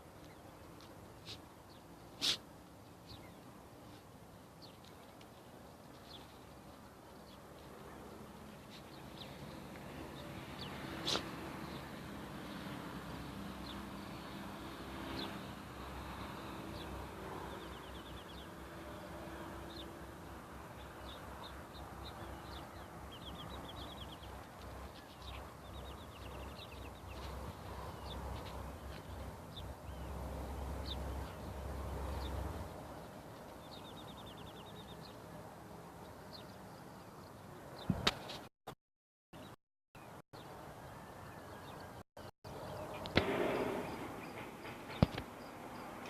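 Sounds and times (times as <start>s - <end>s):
birds chirping: 0.0s - 38.0s, 39.4s - 46.0s.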